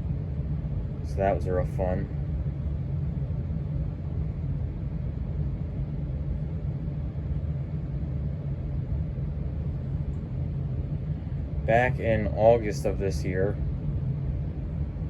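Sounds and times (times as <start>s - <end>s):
ceiling fan rumble: 0.0s - 15.0s.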